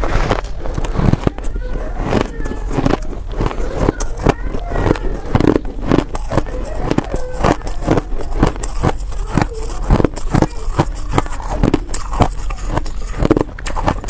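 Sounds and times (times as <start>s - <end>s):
crunchy chewing of ice: 0.0s - 14.0s.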